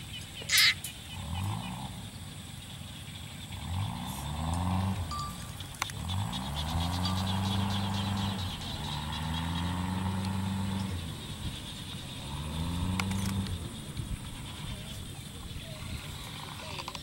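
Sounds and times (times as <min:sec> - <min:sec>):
motor engine revving: 0:00.6 - 0:02.7, 0:03.3 - 0:17.0.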